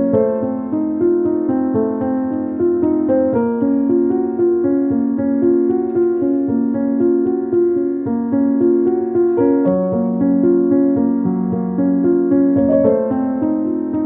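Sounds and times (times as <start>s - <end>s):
background keyboard music: 0.0s - 14.0s.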